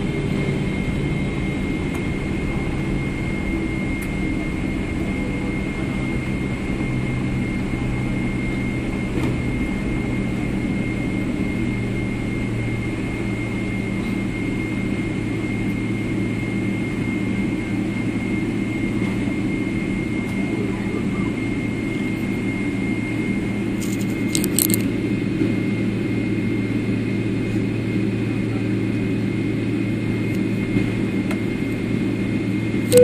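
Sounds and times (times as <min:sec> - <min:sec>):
airliner cabin engine rumble: 0:00.0 - 0:33.0
high engine whine: 0:00.0 - 0:33.0.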